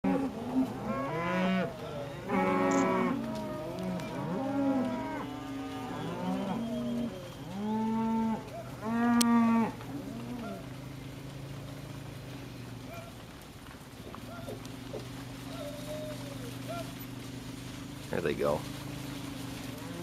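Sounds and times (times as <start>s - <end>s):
cattle mooing and bawling: 0.0s - 13.1s, 14.2s - 17.3s, 18.8s - 20.0s.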